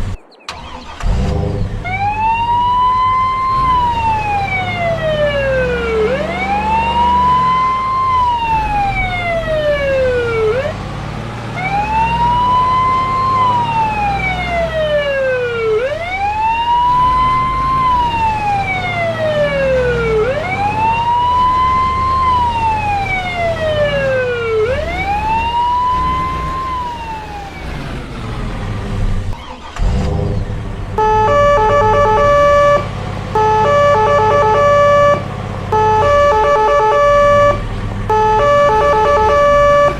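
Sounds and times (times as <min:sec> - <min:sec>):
emergency siren wailing: 0:00.0 - 0:39.9.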